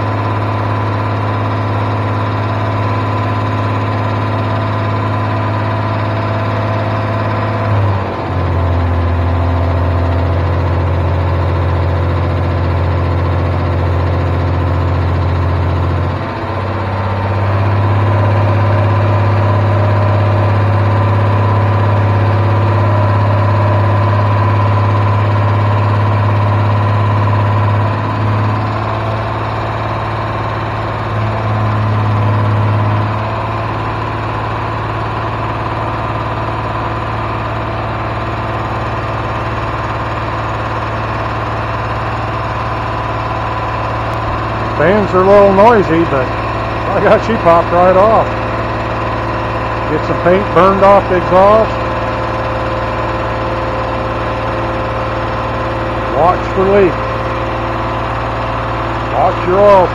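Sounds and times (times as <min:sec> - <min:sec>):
car engine fast idle: 0:00.0 - 0:59.9
electric radiator fans: 0:00.0 - 0:59.9.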